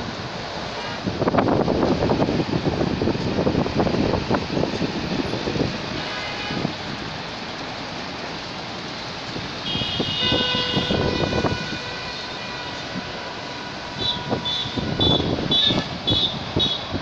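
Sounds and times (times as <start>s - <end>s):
steady outdoor rumble: 0.0s - 17.0s
wind gusting on microphone: 0.0s - 17.0s.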